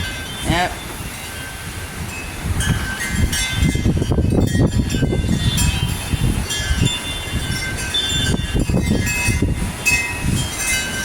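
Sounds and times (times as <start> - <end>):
strong wind buffeting microphone: 0.0 - 11.0
wind chimes ringing: 0.0 - 11.0.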